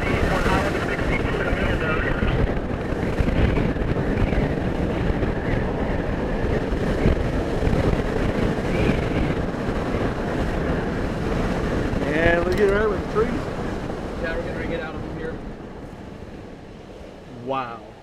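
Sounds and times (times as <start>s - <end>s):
wind and road noise in car: 0.0s - 18.0s.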